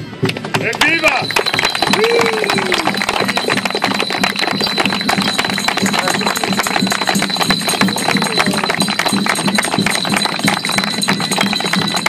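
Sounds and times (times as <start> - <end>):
music playing: 0.0 - 12.0
people clapping: 0.6 - 12.0.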